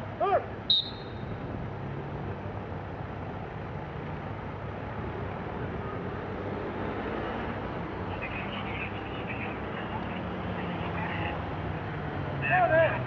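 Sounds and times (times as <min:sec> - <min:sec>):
car passing: 0:00.0 - 0:13.0.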